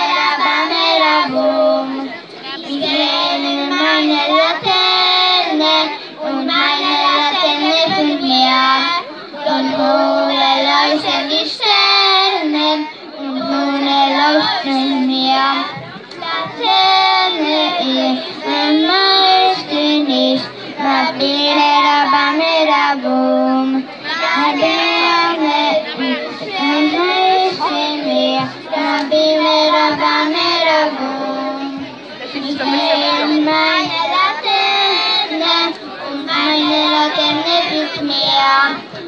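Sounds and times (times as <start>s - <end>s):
children singing: 0.0s - 38.9s.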